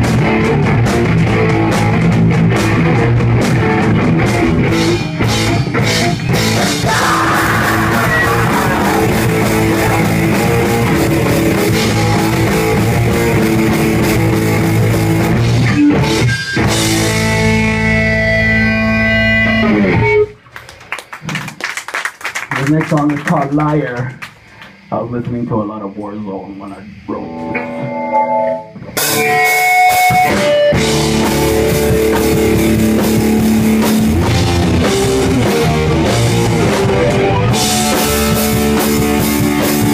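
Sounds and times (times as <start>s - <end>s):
punk band playing: 0.0s - 24.9s, 26.9s - 39.9s.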